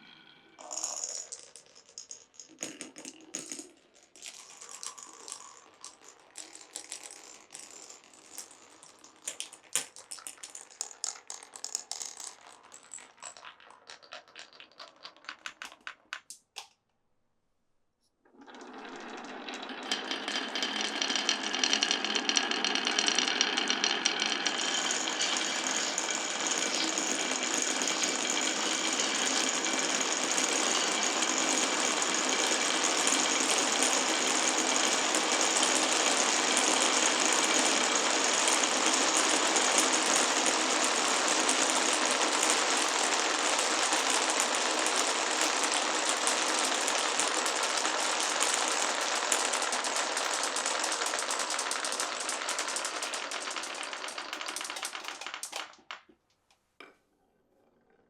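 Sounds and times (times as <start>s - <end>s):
marbles rattling down wooden run: 0.6s - 16.4s, 18.4s - 56.0s.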